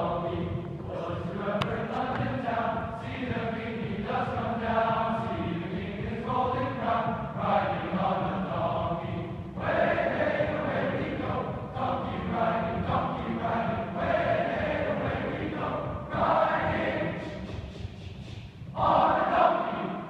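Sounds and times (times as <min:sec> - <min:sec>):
large choir singing: 0:00.0 - 0:18.1, 0:18.7 - 0:20.0.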